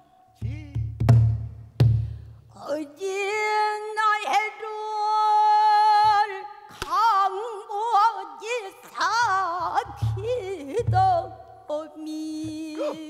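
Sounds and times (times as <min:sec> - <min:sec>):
woman singing: 0:00.0 - 0:01.0, 0:02.5 - 0:13.0.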